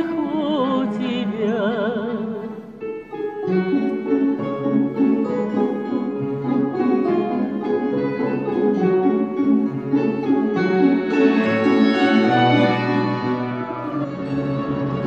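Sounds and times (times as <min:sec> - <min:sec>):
plucked strings: 0:00.0 - 0:15.0.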